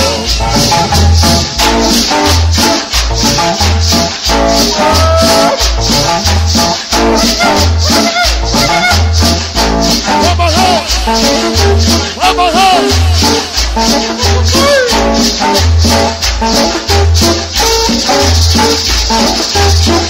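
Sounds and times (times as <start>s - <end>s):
bass line: 0.0s - 17.4s
shaker beat: 0.0s - 20.0s.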